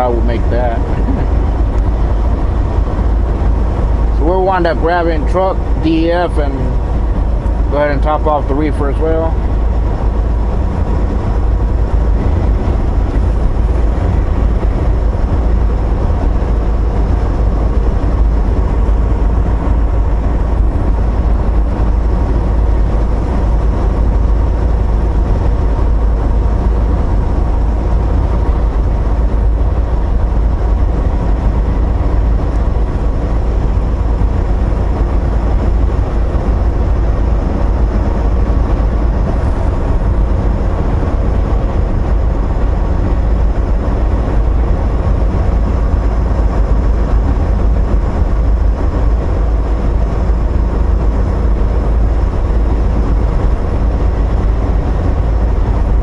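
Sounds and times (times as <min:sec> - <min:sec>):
diesel engine rumble: 0:00.0 - 0:56.0
tyre and road noise: 0:00.0 - 0:56.0.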